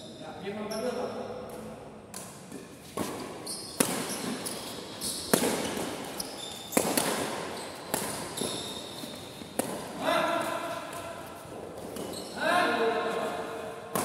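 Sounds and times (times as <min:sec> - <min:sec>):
rackets hitting shuttlecock: 0:01.4 - 0:12.3, 0:13.1 - 0:14.0.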